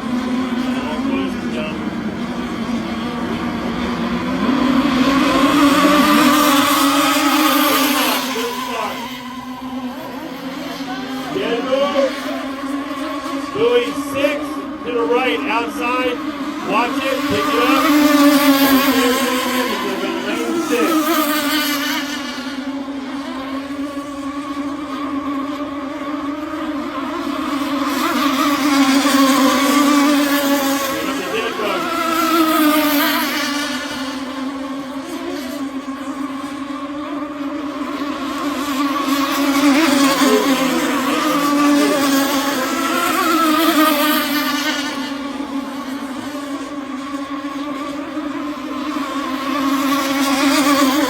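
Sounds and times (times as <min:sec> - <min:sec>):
two-stroke boat engines buzzing: 0:00.0 - 0:51.0.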